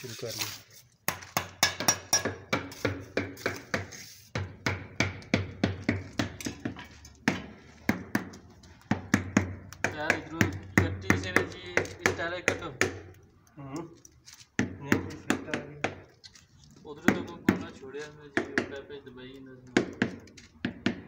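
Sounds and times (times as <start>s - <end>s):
hammer tapping on ceramic tiles: 1.1s - 13.4s, 14.5s - 16.2s, 16.9s - 21.0s.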